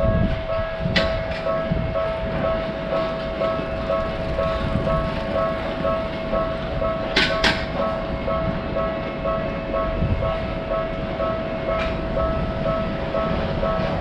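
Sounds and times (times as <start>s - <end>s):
passing train running: 0.0s - 14.0s
railroad crossing bell ringing: 0.0s - 14.0s.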